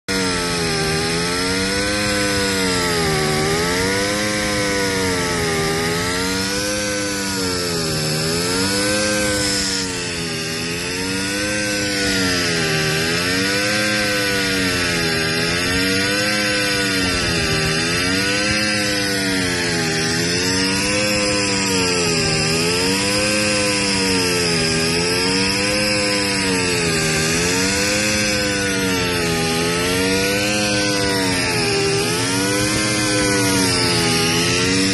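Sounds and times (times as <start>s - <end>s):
grinding machine motor hum: 0.0s - 34.9s
grinding hiss: 0.2s - 34.9s.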